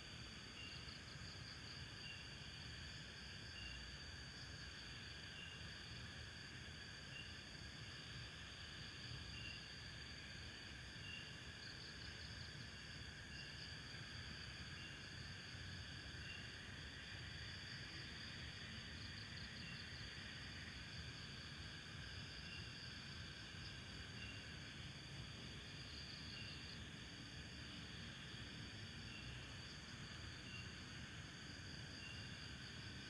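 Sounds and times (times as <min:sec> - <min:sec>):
night insects chirping: 0:00.0 - 0:33.0.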